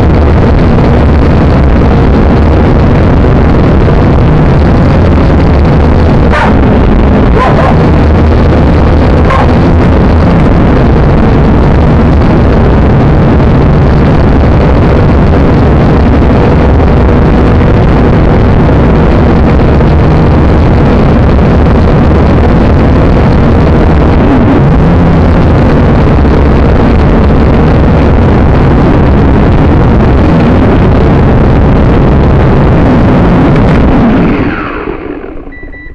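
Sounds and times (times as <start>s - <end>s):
drone propellers buzzing: 0.0s - 35.9s.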